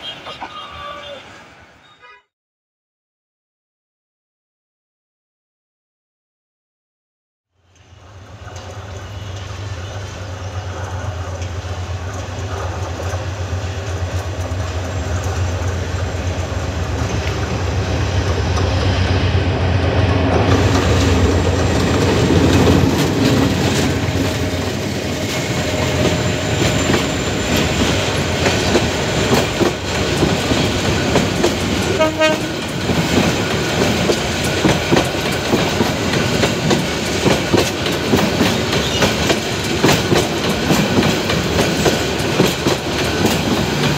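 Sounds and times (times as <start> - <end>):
diesel locomotive hum: 7.6 - 43.9
train wheels clattering over rails: 7.8 - 43.9.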